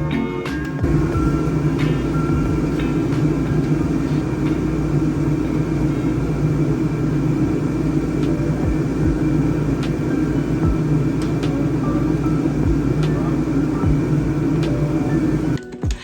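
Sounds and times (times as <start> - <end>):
vehicle engine running: 0.8 - 15.6.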